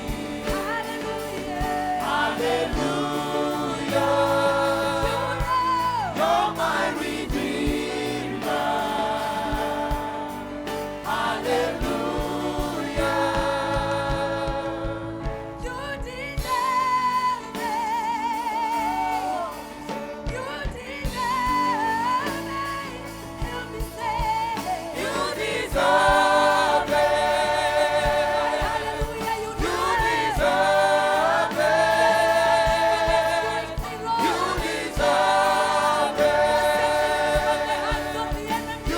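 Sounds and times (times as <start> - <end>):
band playing a steady beat: 0.0 - 38.9
choir singing with vibrato: 0.0 - 38.9.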